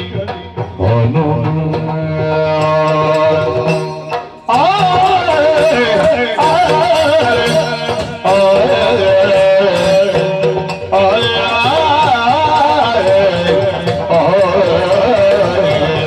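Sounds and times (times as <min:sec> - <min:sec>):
drum strokes: 0:00.0 - 0:16.0.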